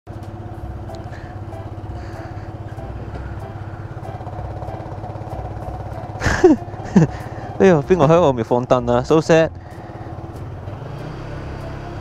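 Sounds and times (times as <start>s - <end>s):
motor scooter engine idling: 0.1s - 12.0s.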